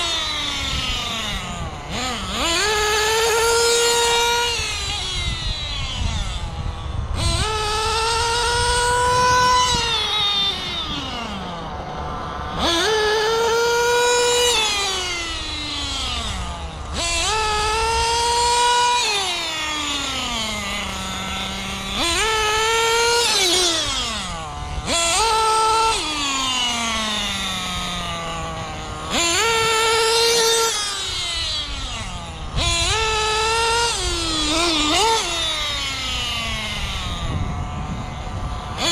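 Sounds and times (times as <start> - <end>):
small model engine revving: 0.0 - 38.9.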